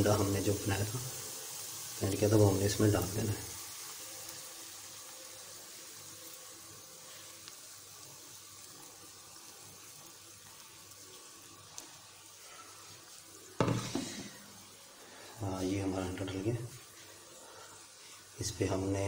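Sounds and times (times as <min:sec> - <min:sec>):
egg sizzling in frying pan: 0:00.0 - 0:19.0.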